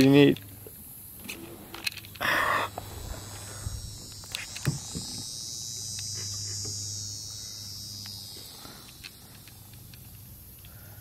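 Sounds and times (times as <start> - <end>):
buzzing insect drone: 0.0 - 11.0.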